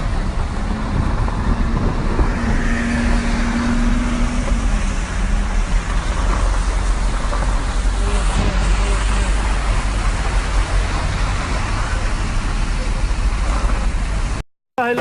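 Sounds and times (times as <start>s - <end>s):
rain and hail on a car: 0.0s - 14.4s.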